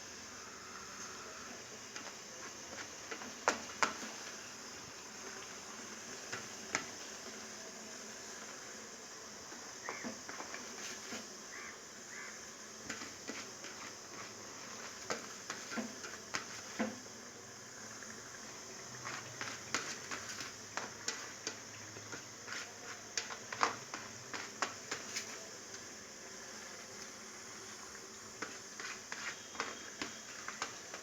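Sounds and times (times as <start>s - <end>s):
coconut sizzling in hot oil: 0.0s - 31.0s.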